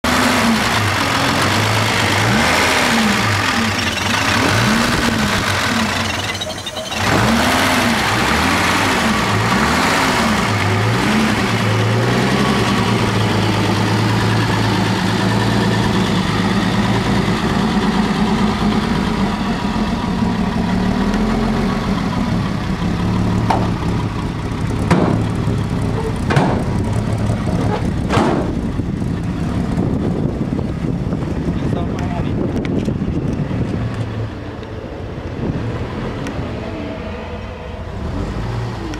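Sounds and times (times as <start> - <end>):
car engine revving: 0.0 - 31.7.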